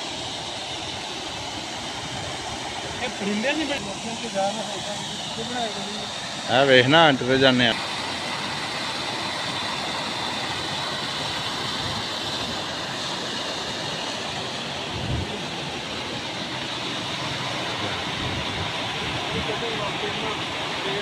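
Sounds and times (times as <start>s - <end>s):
water rushing through gates: 0.2s - 21.0s.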